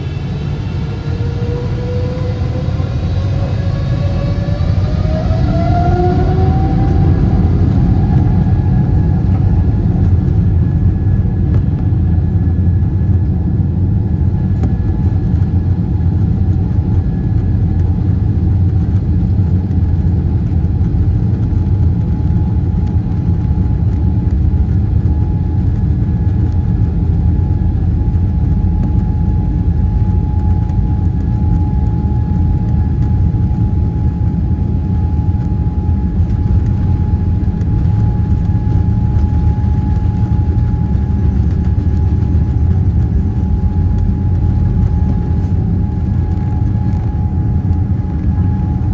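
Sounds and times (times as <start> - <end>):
jet engine rumble and whine: 0.0 - 48.9.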